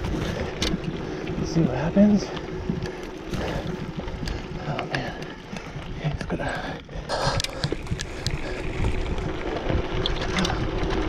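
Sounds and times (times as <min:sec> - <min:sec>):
bike clicks and rattles: 0:00.0 - 0:11.0
bike tyres crunching on dirt: 0:00.0 - 0:11.0.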